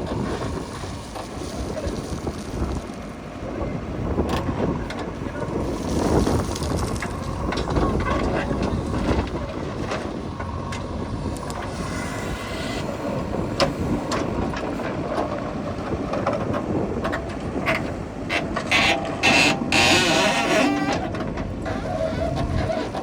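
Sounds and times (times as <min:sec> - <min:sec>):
heavy machinery diesel engines: 0:00.0 - 0:23.0.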